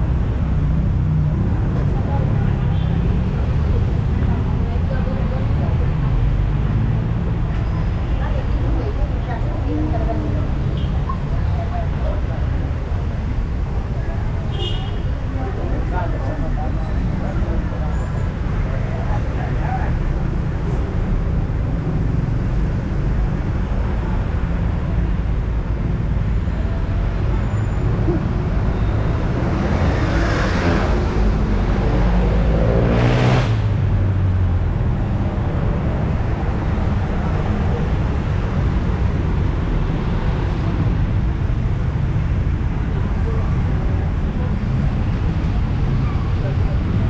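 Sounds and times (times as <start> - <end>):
road traffic rumble: 0.0 - 47.0.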